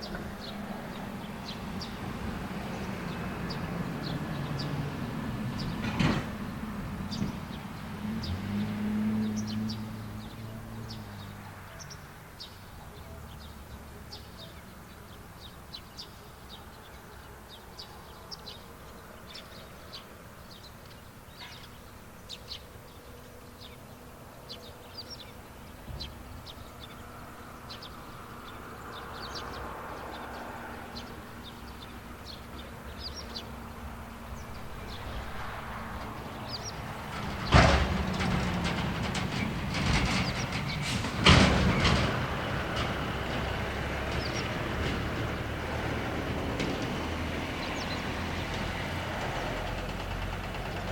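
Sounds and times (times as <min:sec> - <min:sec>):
small birds chirping: 0:00.0 - 0:40.9, 0:43.0 - 0:48.8.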